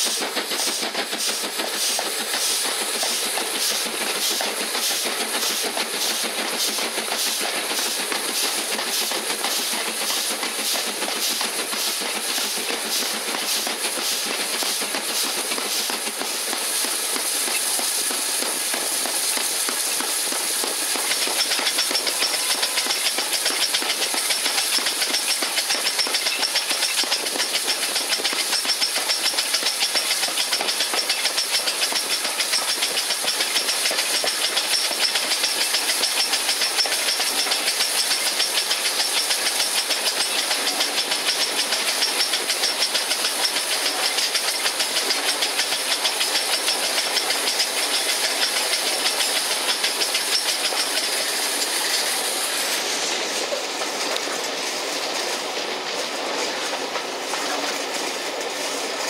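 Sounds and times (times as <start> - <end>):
steam locomotive beat: 0.0 - 55.9
steam locomotive hissing: 0.0 - 59.0.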